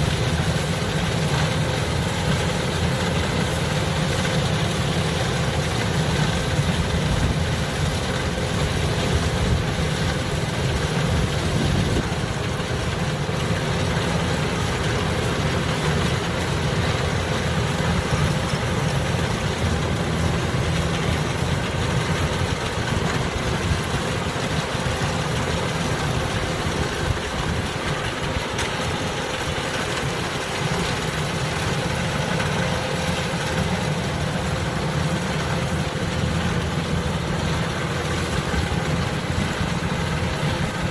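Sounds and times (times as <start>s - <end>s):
combine harvester engine droning: 0.0s - 40.9s.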